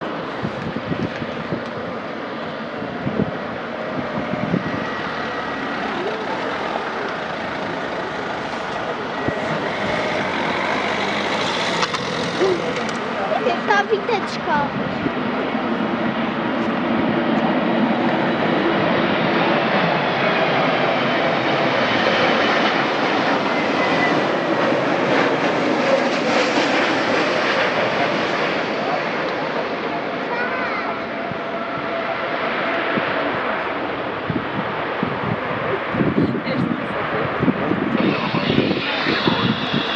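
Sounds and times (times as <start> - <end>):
wind buffeting microphone: 0.0 - 26.4, 31.0 - 39.9
airliner engines: 0.0 - 39.9.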